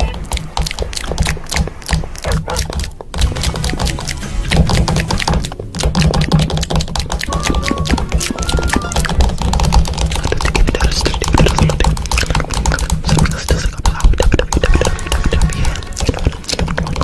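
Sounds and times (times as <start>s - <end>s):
crackling clicks: 0.0s - 17.0s.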